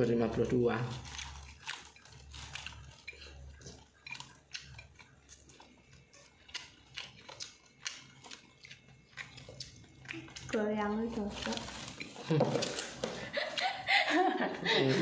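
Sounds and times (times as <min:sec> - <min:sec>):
faint low hum: 0:00.0 - 0:15.0
person chewing food: 0:00.3 - 0:13.9.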